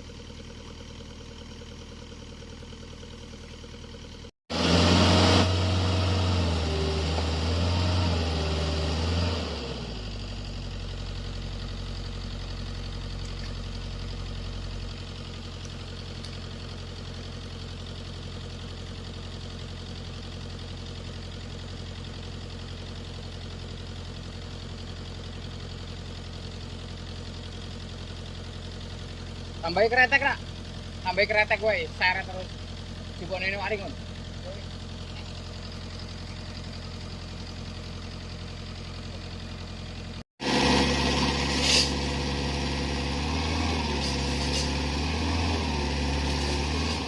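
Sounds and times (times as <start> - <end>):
excavator diesel engine: 0.0 - 47.0.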